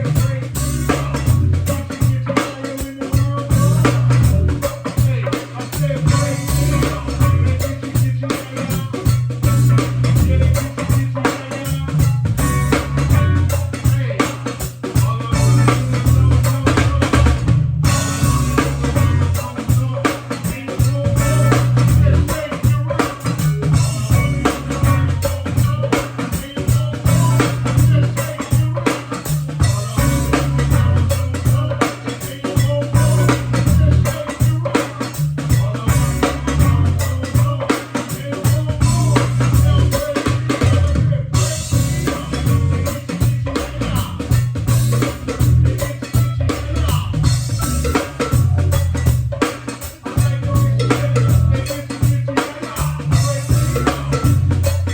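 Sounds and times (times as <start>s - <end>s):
bass line: 0.0s - 54.9s
drum kit playing a steady beat: 0.0s - 54.9s.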